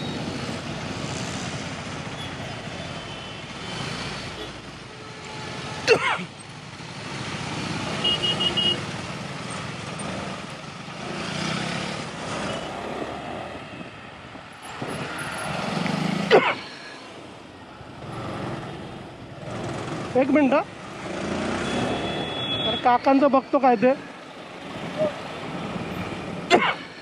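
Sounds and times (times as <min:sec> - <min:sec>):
motorcycle engine and road noise: 0:00.0 - 0:27.0.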